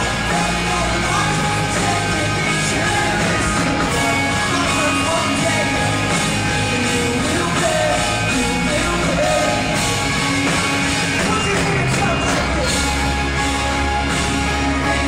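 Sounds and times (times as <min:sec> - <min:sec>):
person singing lead vocal: 0:00.0 - 0:13.2
live rock band playing: 0:00.0 - 0:15.0.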